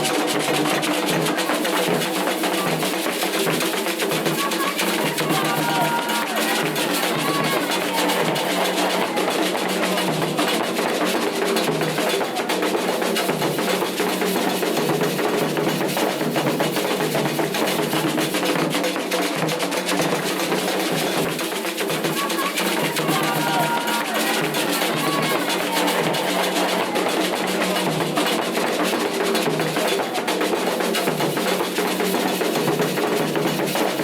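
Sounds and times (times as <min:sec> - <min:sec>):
hand drums playing fast rhythm: 0:00.0 - 0:34.0.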